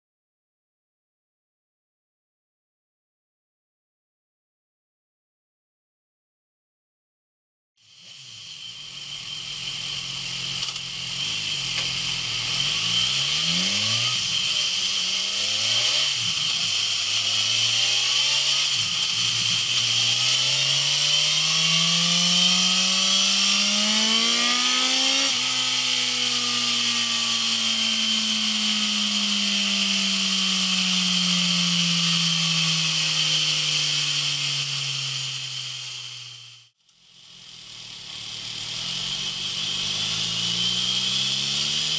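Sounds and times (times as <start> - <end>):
motorcycle engine accelerating: 7.8 - 41.9.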